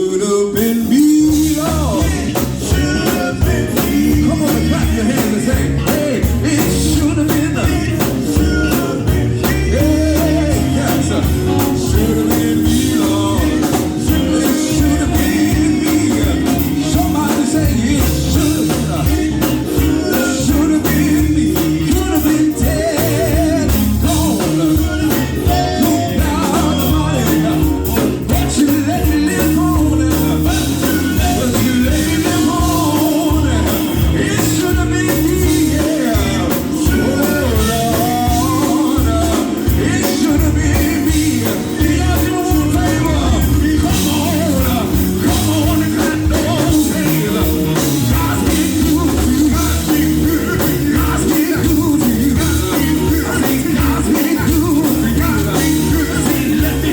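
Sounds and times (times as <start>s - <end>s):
gospel band playing: 0.0s - 56.9s
people singing: 0.0s - 56.9s
drums and bass beat: 0.5s - 56.9s.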